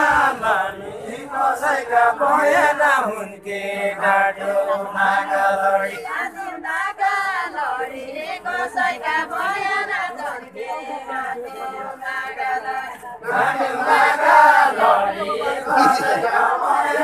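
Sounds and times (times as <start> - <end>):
unaccompanied voices singing: 0.0 - 17.0.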